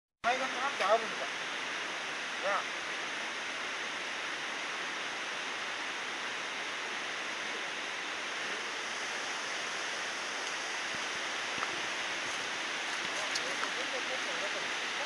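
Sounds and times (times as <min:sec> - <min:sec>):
waterfall rushing: 0:00.3 - 0:15.0.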